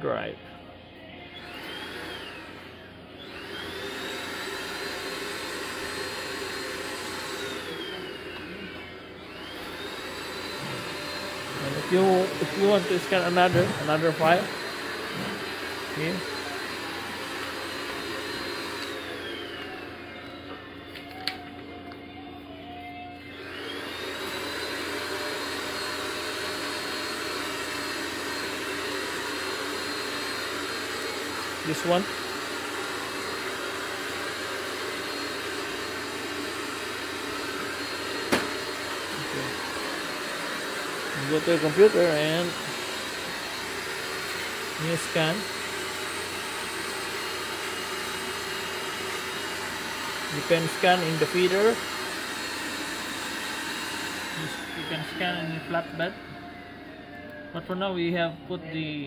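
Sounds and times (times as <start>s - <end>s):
electric motor whining: 1.0s - 57.8s.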